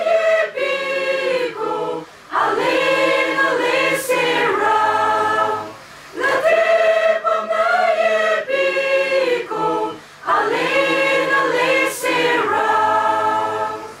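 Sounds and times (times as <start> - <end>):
youth choir singing: 0.0 - 14.0.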